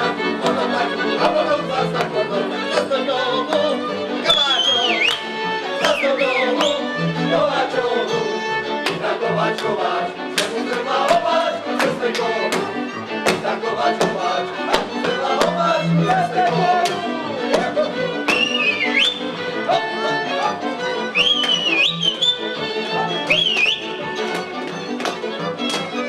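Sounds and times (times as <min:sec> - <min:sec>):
fiddle melody: 0:00.0 - 0:26.0
folk string band playing: 0:00.0 - 0:26.0.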